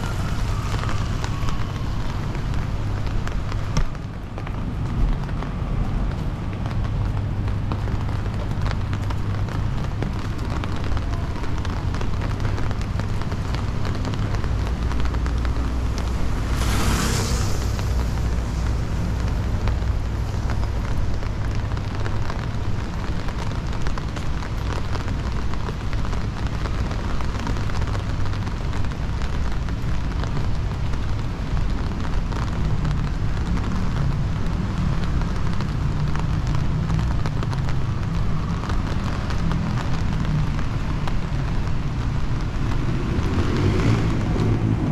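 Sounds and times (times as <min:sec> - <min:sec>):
traffic rumble: 0:00.0 - 0:44.9.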